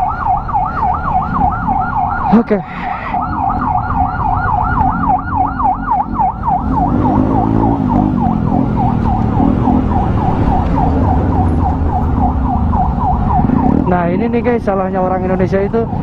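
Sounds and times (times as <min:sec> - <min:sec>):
electronic siren yelping: 0:00.0 - 0:14.4
engine and road rumble: 0:00.0 - 0:16.0.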